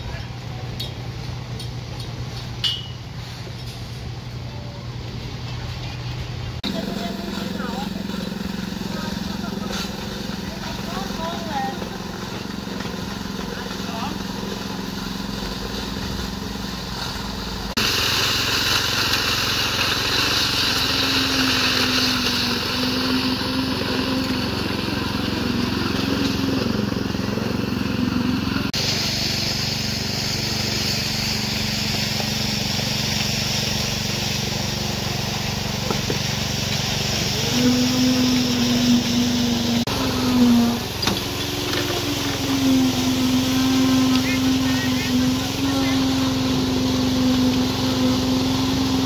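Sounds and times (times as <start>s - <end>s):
small petrol engines running: 0.0s - 49.0s.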